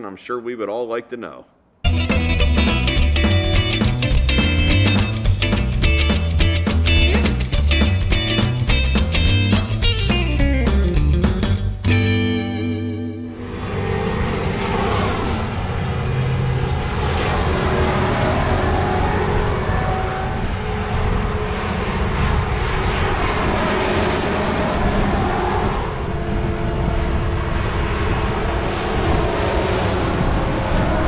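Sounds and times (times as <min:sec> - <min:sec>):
diesel engines droning: 0:01.9 - 0:31.0.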